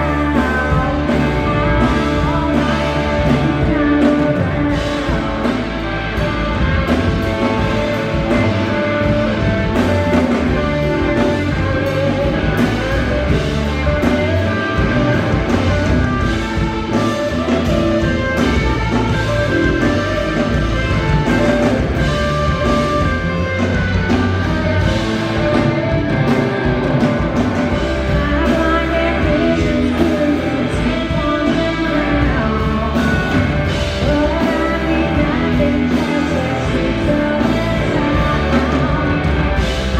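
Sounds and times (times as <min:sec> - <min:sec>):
blues-rock band playing: 0:00.0 - 0:39.9
electric guitar: 0:00.0 - 0:39.9.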